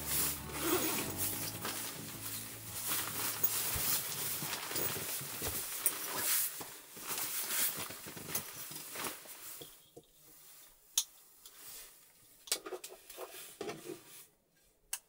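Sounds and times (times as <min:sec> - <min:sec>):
rustling and handling noise: 0:00.0 - 0:14.8.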